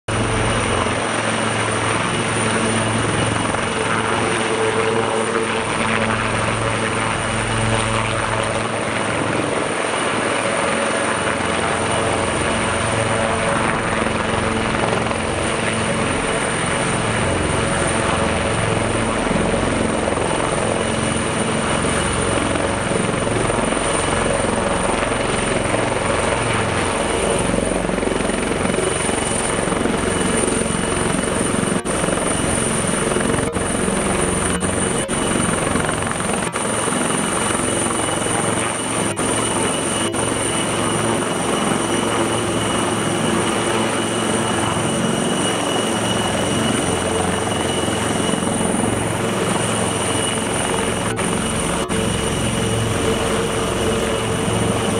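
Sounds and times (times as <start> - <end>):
helicopter engine whine: 0.1 - 54.9
helicopter rotors: 0.1 - 54.9.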